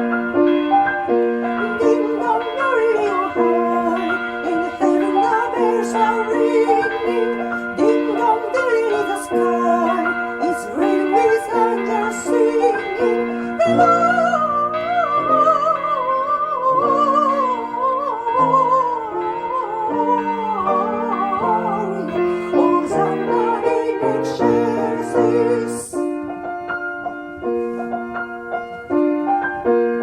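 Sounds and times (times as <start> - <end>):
woman singing operatically: 1.4 - 26.2.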